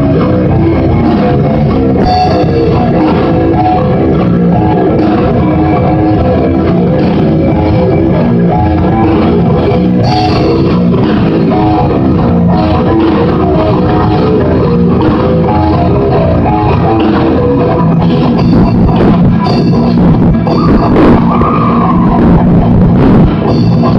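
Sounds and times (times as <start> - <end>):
metal band playing: 0.0 - 23.9.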